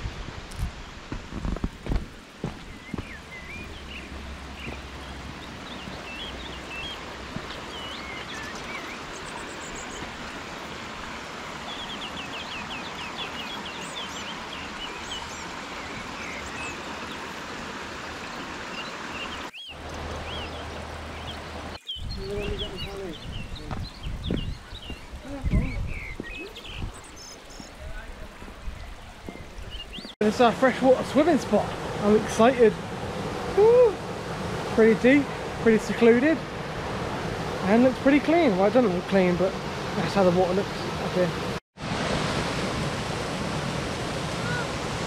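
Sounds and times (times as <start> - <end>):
stream running over stones: 0.0 - 45.0
small birds chirping: 1.4 - 41.5.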